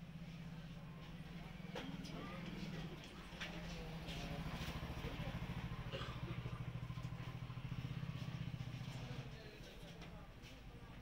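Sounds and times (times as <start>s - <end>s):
engine idling: 0.0s - 9.7s.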